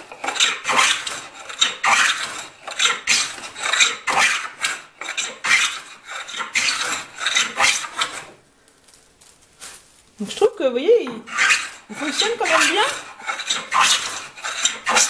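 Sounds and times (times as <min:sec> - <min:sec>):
hand plane shaving wood: 0:00.0 - 0:08.4, 0:11.1 - 0:15.0.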